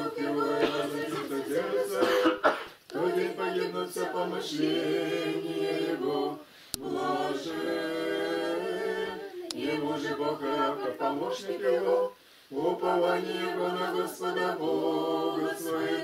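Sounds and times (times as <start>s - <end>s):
voices chanting a cappella: 0.0s - 16.0s.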